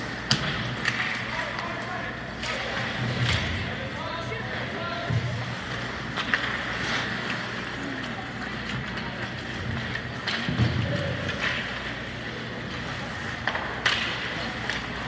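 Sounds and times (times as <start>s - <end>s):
hockey sticks and puck clacking: 0.0s - 15.0s
rink background noise: 0.0s - 15.0s.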